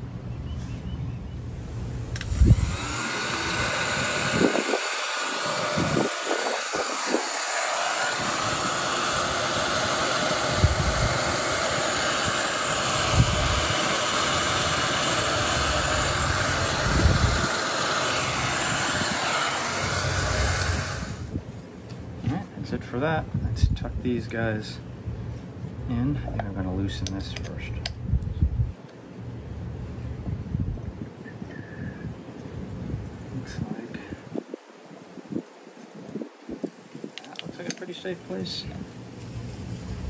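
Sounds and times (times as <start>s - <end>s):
heat gun fan blowing: 1.5s - 40.0s.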